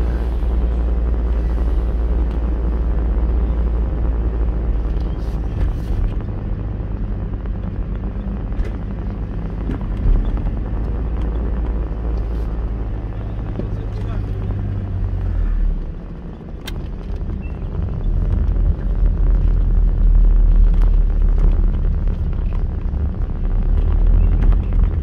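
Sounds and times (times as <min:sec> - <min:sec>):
car engine: 0:00.0 - 0:25.0
road noise: 0:00.0 - 0:25.0.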